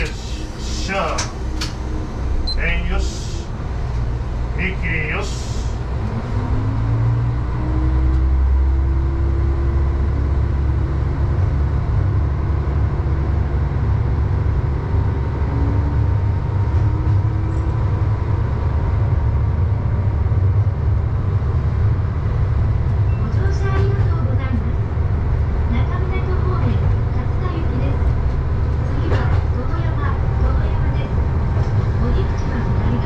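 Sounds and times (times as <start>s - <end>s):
diesel railcar engine pulling away: 0.0s - 33.0s.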